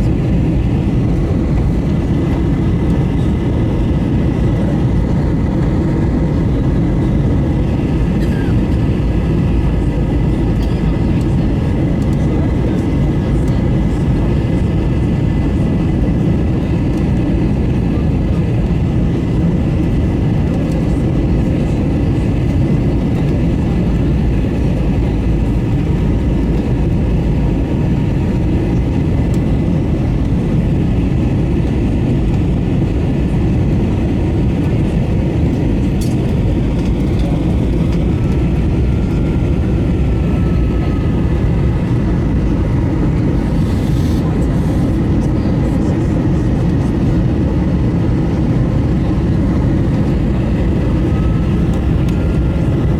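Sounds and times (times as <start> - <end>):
rumble of engines and airflow: 0.0 - 52.9.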